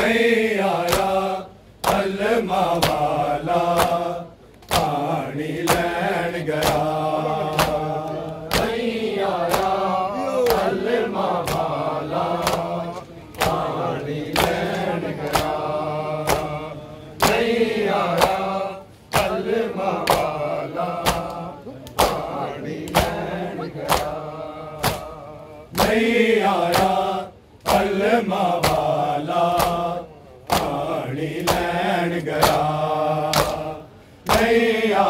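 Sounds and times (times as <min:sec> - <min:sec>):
hands slapping chests in unison: 0:00.0 - 0:35.0
men chanting: 0:00.0 - 0:35.0.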